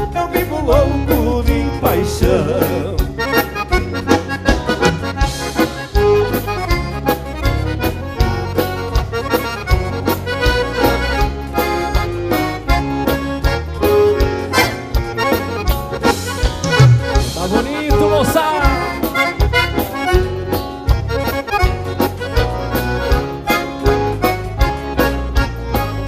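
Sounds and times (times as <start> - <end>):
accordion melody: 0.0 - 26.0
bass and drum beat: 0.0 - 26.0.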